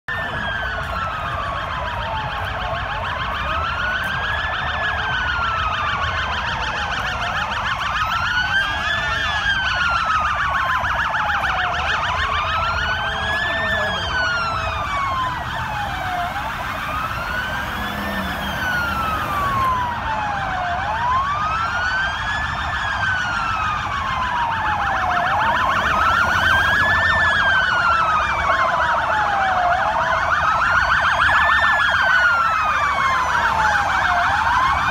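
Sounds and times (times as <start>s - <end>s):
traffic rumble: 0.1s - 34.9s
wailing siren: 0.1s - 34.9s
warbling siren: 0.1s - 34.9s.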